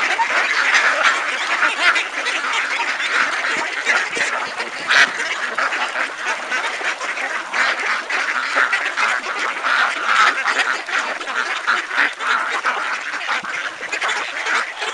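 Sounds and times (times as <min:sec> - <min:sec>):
ducks quacking: 0:00.0 - 0:14.9.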